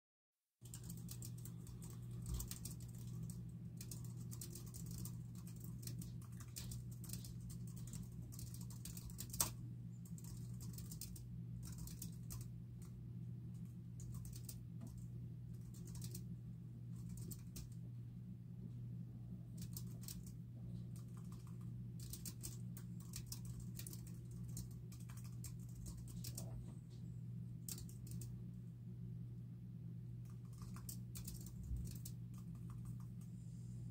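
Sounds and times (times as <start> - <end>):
low steady hum: 0.6 - 33.9.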